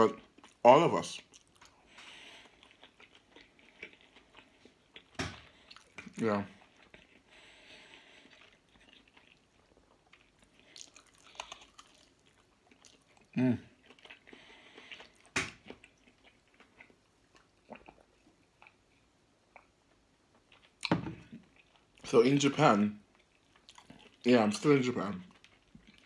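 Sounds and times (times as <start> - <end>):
person chewing and biting food: 1.2 - 22.0, 23.1 - 24.2.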